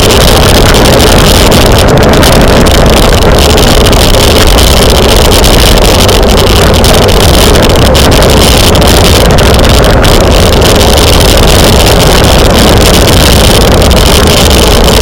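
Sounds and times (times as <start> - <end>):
wind roar on microphone: 0.0 - 15.0.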